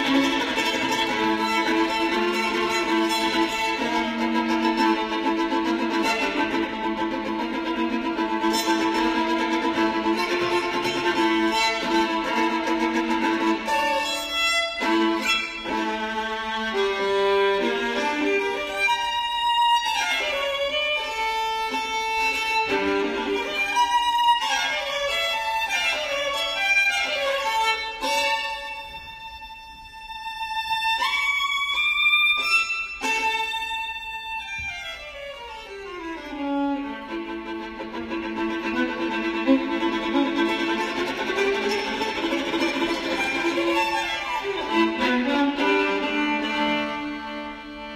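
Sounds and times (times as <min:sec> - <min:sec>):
violin playing a melody: 0:00.0 - 0:47.9.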